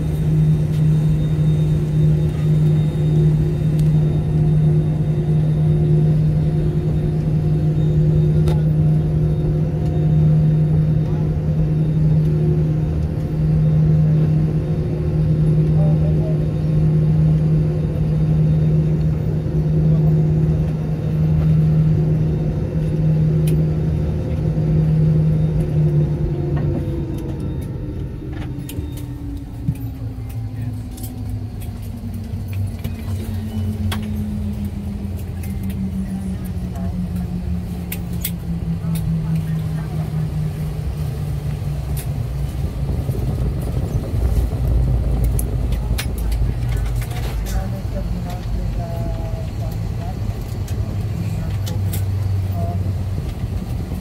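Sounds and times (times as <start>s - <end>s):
aircraft cabin drone: 0.0s - 54.0s.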